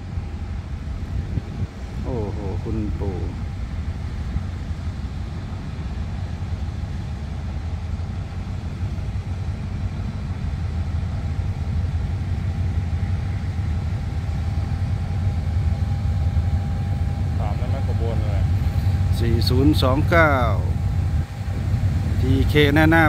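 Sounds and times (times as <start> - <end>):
locomotive engine rumble: 0.0 - 23.0.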